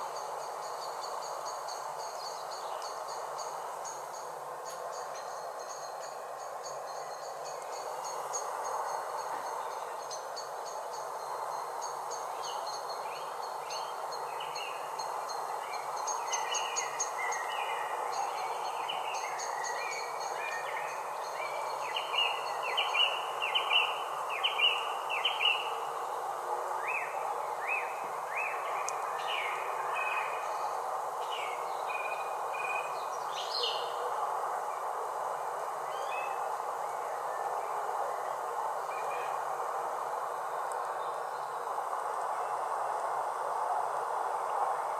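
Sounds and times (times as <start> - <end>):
songbirds singing: 0.0 - 39.5
steady hiss: 0.0 - 44.9.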